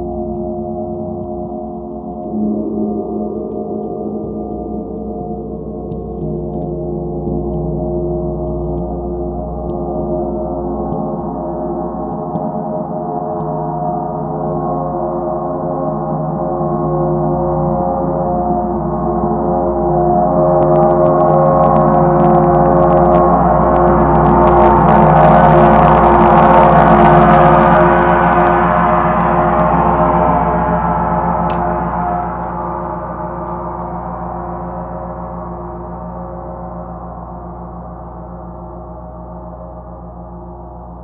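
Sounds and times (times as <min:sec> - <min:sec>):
gong roll: 0:00.0 - 0:41.0.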